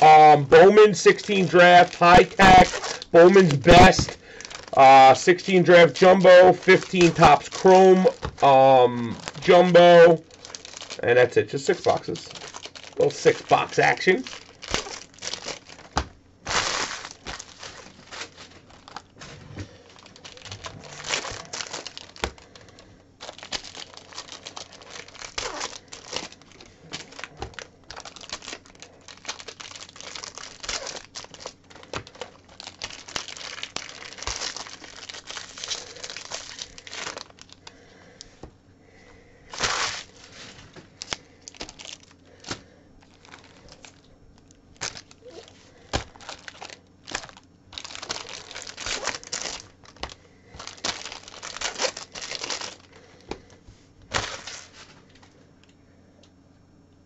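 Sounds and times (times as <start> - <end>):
plastic and foil wrapping tearing: 0.0 - 19.2, 19.8 - 37.8, 39.5 - 53.1, 54.1 - 54.9.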